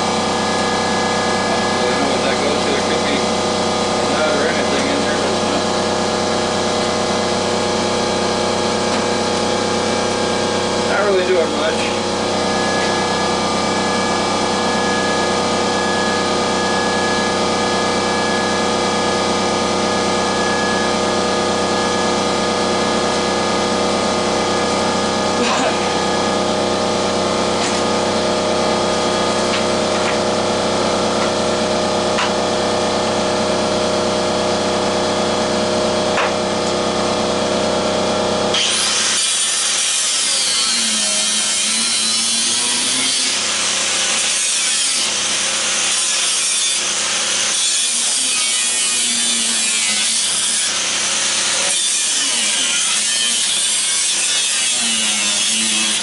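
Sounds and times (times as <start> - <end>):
power tool motor running: 0.0 - 56.0.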